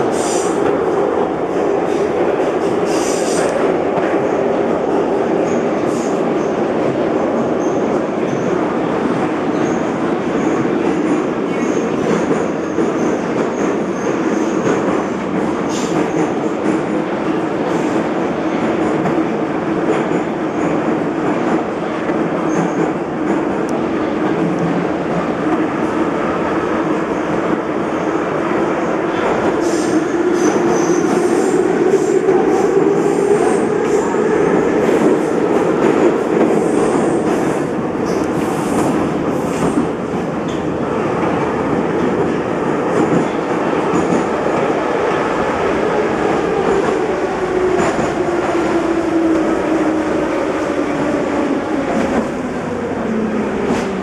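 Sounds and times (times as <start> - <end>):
metro train rumbling drone: 0.0 - 54.0.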